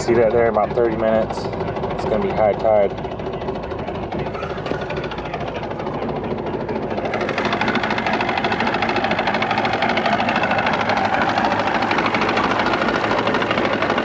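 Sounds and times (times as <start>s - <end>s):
boat motor trolling: 0.0s - 14.0s.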